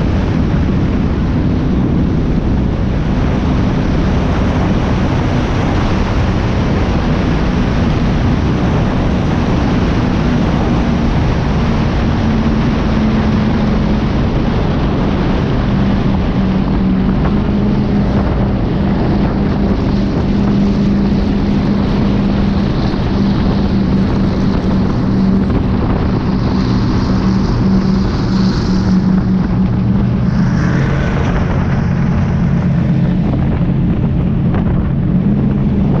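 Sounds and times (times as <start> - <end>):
boat engines droning: 0.0 - 36.0
wind buffeting microphone: 0.0 - 36.0.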